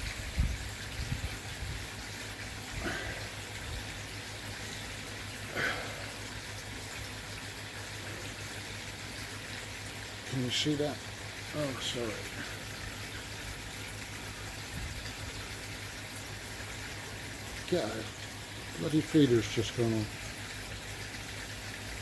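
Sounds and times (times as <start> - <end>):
water rushing and bubbling: 0.0 - 22.0.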